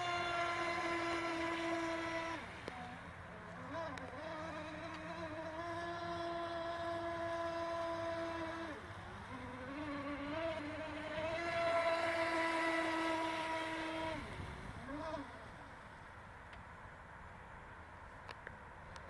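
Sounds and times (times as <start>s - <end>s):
electric motor whining: 0.0s - 15.7s.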